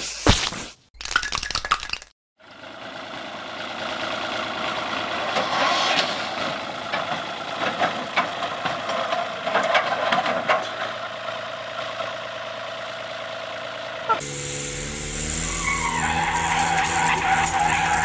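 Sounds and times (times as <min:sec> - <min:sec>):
tractor engine running: 0:02.4 - 0:18.0.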